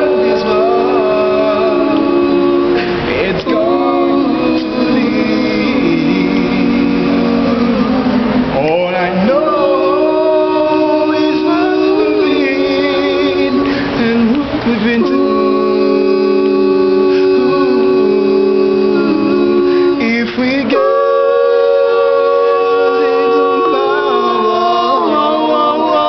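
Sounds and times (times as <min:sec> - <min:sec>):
male vocal group singing a cappella: 0:00.0 - 0:26.0.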